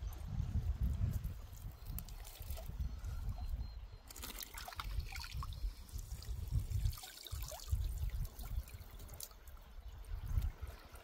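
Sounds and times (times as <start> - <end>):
water trickling and splashing: 0.6 - 11.0.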